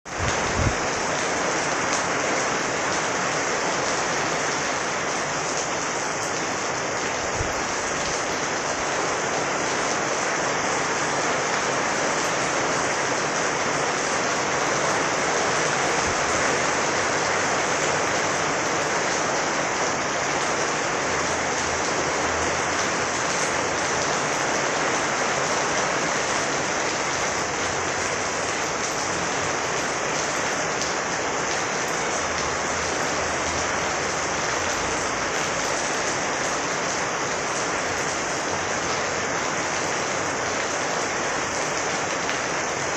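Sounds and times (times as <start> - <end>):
heavy rain falling: 0.1 - 42.9.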